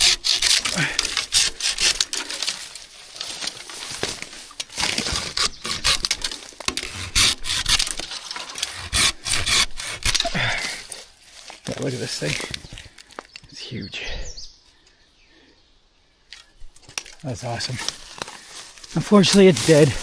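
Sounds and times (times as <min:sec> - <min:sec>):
dry branches crackling and snapping: 0:00.0 - 0:13.4, 0:16.3 - 0:20.0.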